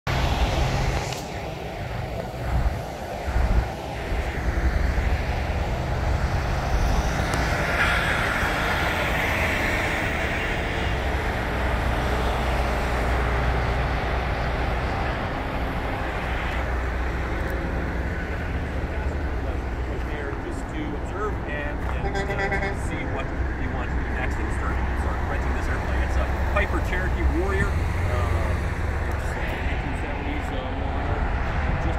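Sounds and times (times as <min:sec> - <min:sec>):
dump truck passing: 0:00.1 - 0:20.1, 0:20.9 - 0:31.9
freeway traffic passing: 0:00.1 - 0:31.9.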